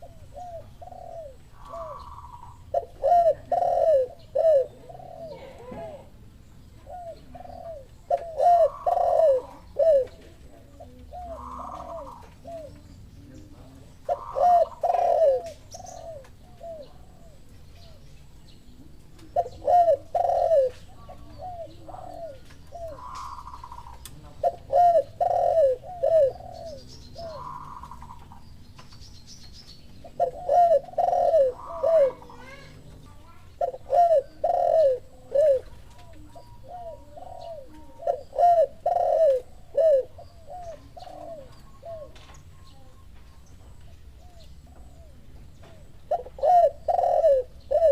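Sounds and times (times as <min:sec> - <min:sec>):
doves cooing: 0:00.0 - 0:47.9.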